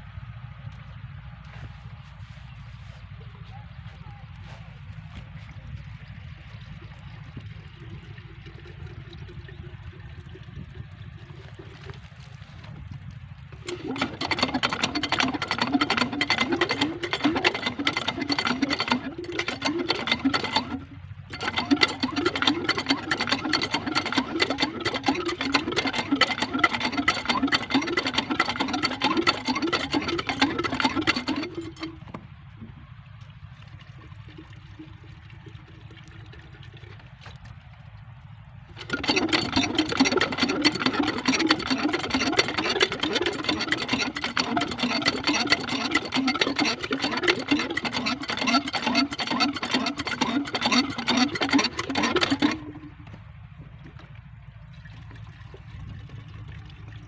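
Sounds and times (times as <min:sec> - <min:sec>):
diesel engine clattering: 0:00.0 - 0:57.0.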